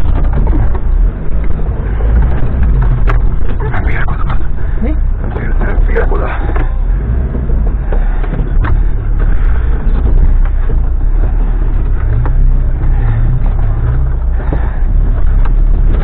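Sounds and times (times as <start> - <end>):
body knocks and rattles: 0.0 - 16.0
vehicle engine under load: 0.0 - 16.0.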